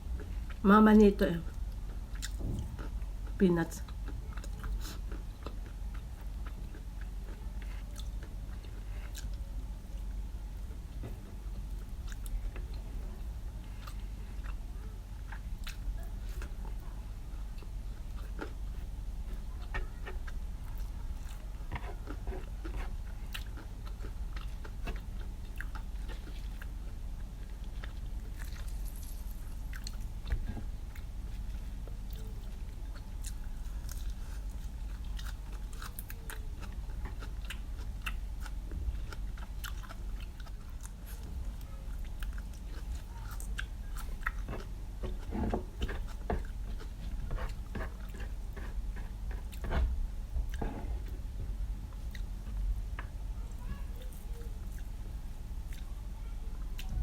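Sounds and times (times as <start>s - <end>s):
low steady hum: 0.0s - 57.0s
chewing crunchy food: 1.5s - 57.0s.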